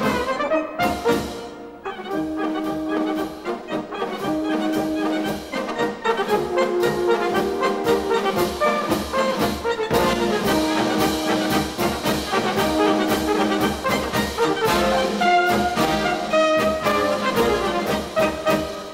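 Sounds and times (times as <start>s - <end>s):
brass orchestral music: 0.0s - 18.9s.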